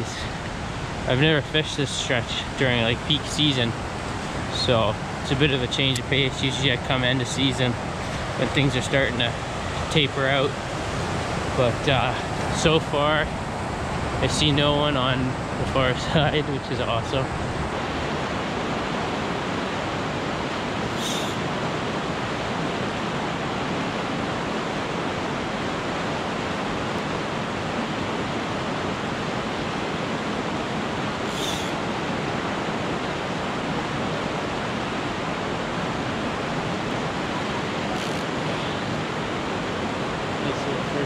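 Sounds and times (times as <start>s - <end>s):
river rapids roaring: 0.0s - 41.0s.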